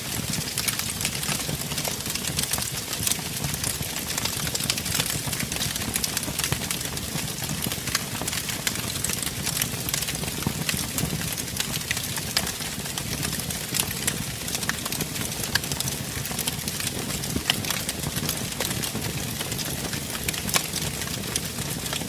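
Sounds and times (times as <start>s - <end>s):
fire crackling and popping: 0.0s - 22.0s
wood fire roaring: 0.0s - 22.0s.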